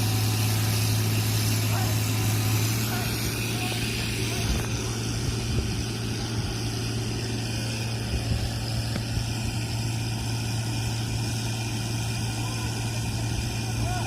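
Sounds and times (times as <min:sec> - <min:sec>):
heavy equipment engine running: 0:00.0 - 0:14.0.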